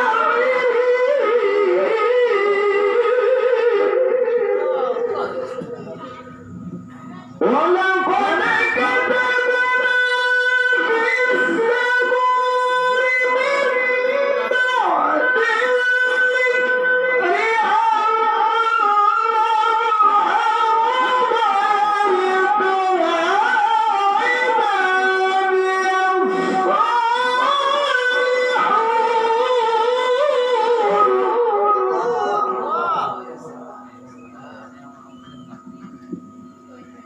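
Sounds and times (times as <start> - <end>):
person reciting melodically: 0.0 - 35.6.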